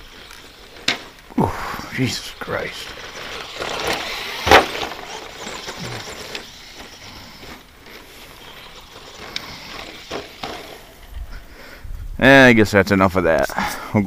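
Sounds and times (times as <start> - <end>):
rc truck running on dirt: 0.0 - 13.5.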